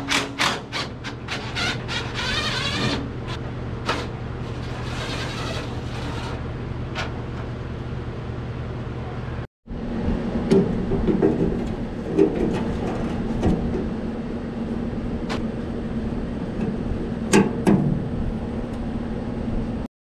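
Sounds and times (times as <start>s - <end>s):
steady hum: 0.0s - 19.9s.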